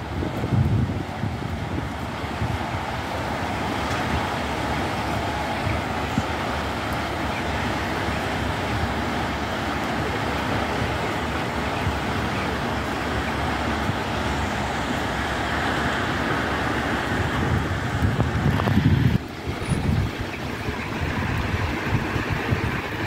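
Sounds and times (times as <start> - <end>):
low vehicle rumble: 0.0 - 23.0
rain: 0.0 - 23.0
road traffic noise: 0.0 - 23.0.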